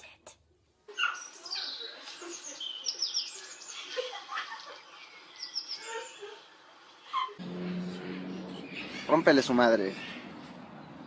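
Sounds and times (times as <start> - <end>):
birds chirping: 0.9 - 11.0.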